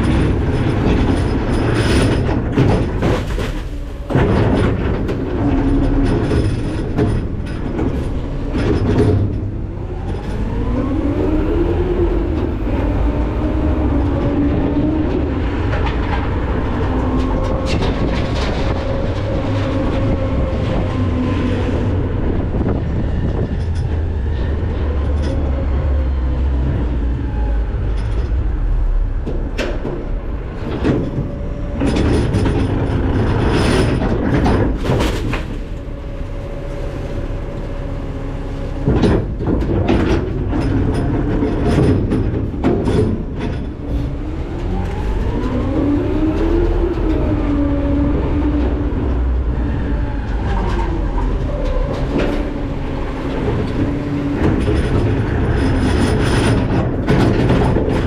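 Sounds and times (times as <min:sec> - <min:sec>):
trash crushing with cracks and bangs: 0:00.0 - 0:58.0
truck engine and hydraulics rumbling: 0:00.0 - 0:58.0.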